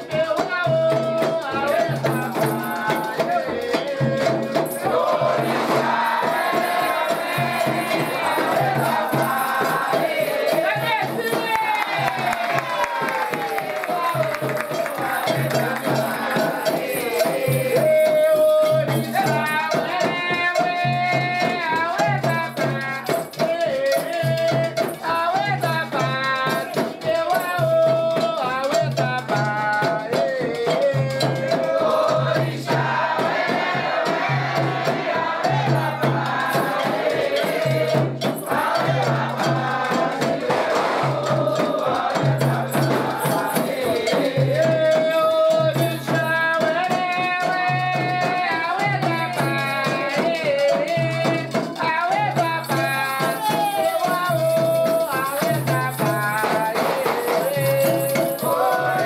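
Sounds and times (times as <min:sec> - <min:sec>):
voices singing a chant: 0:00.0 - 0:59.0
shaken rattles: 0:01.2 - 0:59.0.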